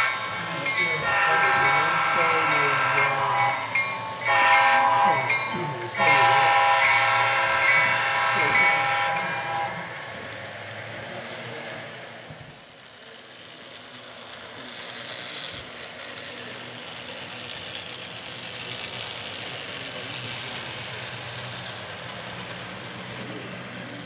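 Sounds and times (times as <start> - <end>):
model train diesel engine hum: 0.0 - 24.0.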